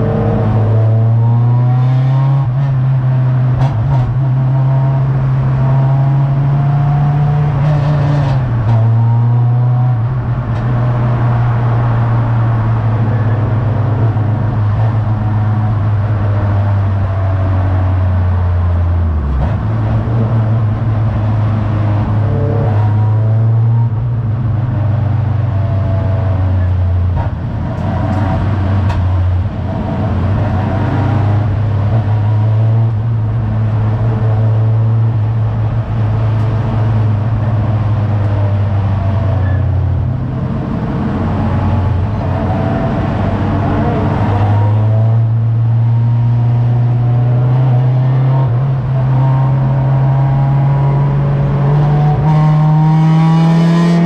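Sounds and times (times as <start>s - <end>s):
race car engine under load: 0.0s - 54.0s.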